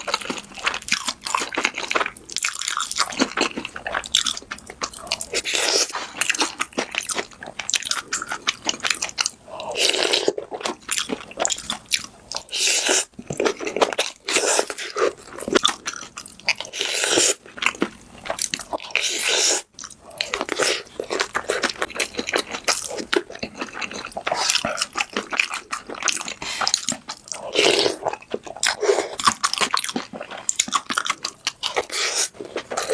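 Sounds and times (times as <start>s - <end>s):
person chewing crunchy food: 0.0s - 32.9s.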